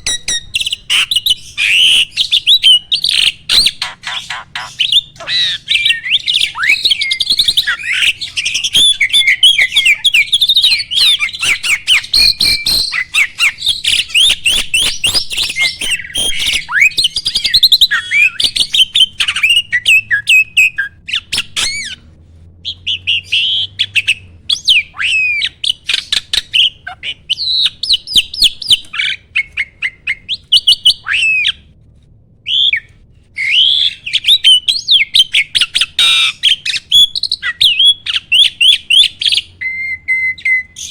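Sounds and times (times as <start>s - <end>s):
starling singing: 0.0s - 22.0s, 22.6s - 31.7s, 32.5s - 40.9s.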